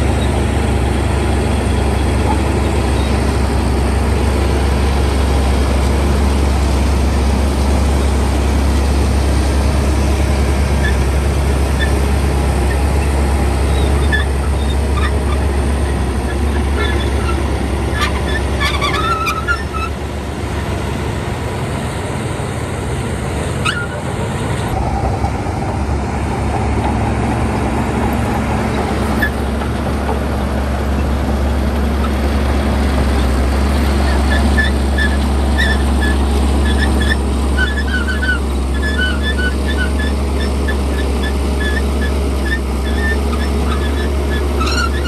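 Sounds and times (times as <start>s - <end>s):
heavy diesel engine droning: 0.0s - 45.0s.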